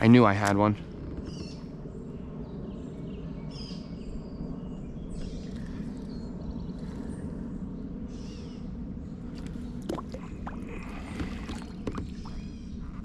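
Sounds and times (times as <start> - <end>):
birds chirping: 1.1 - 13.0.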